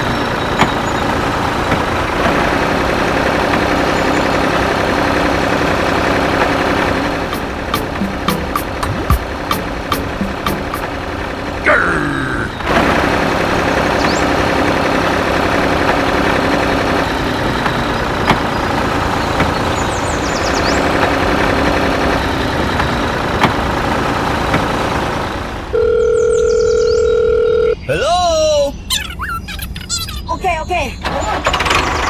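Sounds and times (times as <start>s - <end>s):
engine running: 0.0s - 32.0s.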